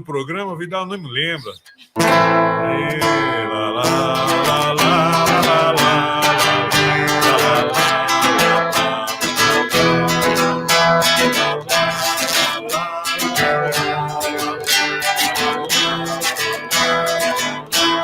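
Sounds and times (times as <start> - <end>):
acoustic guitar playing: 1.7 - 18.0.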